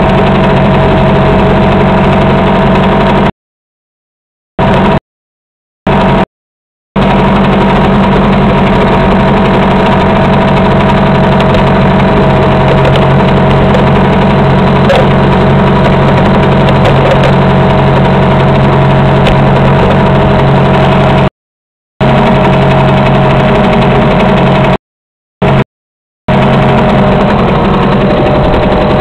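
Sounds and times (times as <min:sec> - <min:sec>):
outboard motor running: 0:00.0 - 0:03.3, 0:04.6 - 0:05.0, 0:05.9 - 0:06.3, 0:07.0 - 0:21.3, 0:22.0 - 0:24.8, 0:25.4 - 0:25.6, 0:26.3 - 0:29.0.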